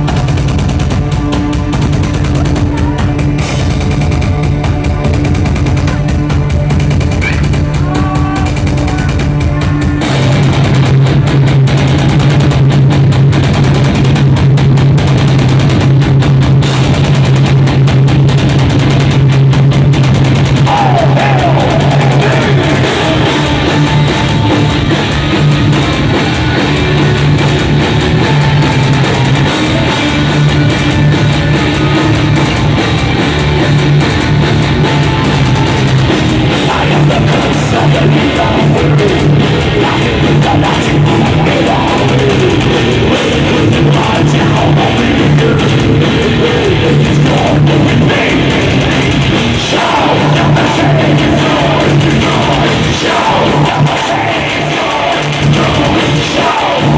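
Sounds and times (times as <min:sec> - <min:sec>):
heavy metal band playing: 0:00.0 - 0:56.9.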